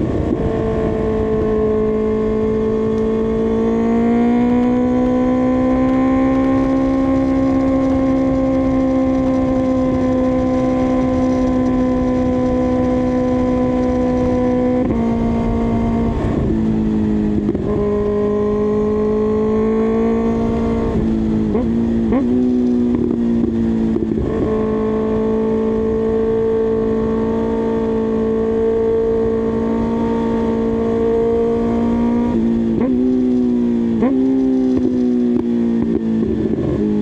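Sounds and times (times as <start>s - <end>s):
motorcycle engine running: 0.0s - 37.0s
wind rush: 0.0s - 37.0s.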